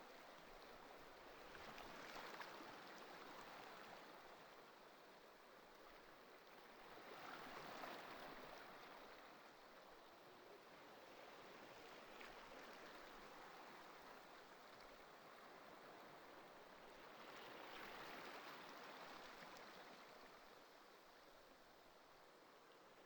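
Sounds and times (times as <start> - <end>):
faint ocean surf: 0.0 - 23.0.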